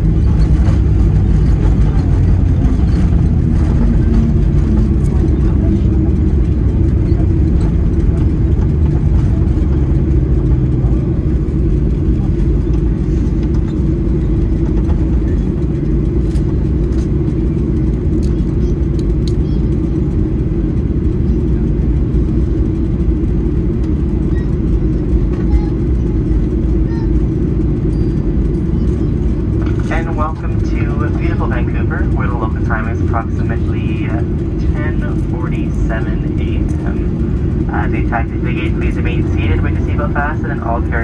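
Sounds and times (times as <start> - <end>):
moving vehicle rumble: 0.0 - 41.0.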